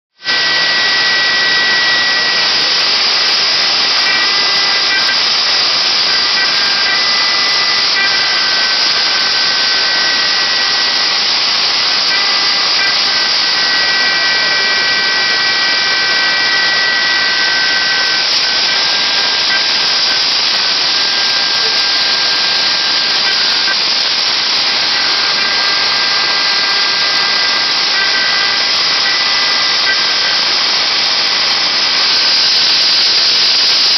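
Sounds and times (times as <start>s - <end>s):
high whining tones: 0.2s - 33.9s
router bit cutting wood hiss: 0.2s - 33.9s.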